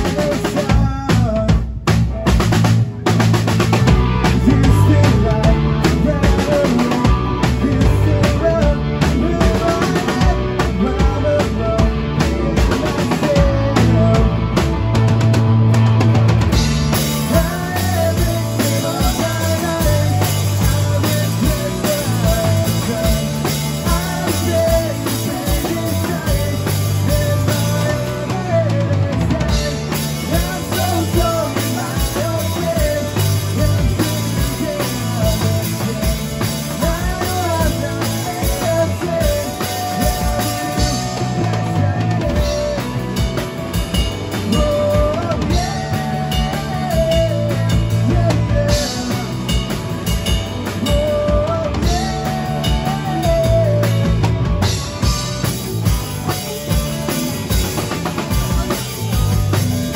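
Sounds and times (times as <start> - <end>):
amplified electric guitar: 0.0 - 59.9
bass guitar: 0.0 - 59.9
drum kit beat: 0.0 - 59.9.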